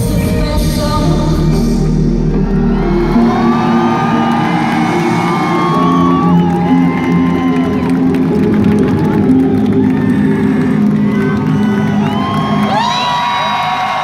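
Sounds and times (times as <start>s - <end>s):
live pop music with keyboard: 0.0s - 14.0s
audience cheering and screaming: 2.3s - 14.0s.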